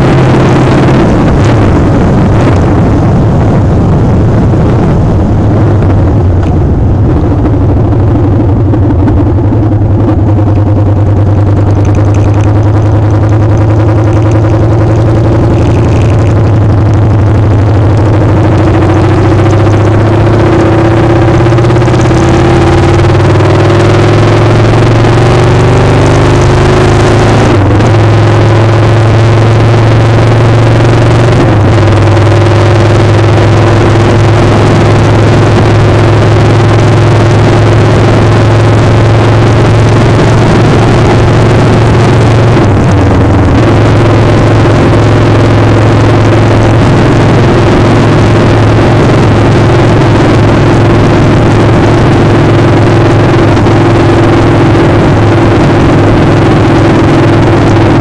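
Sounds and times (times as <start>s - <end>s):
heavy rush of noise: 0.0s - 58.0s
motorcycle engine running: 0.0s - 58.0s.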